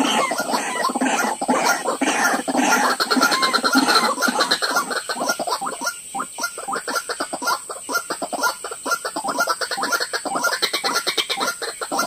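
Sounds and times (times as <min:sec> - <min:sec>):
waterhen croaking call: 0:00.0 - 0:12.0.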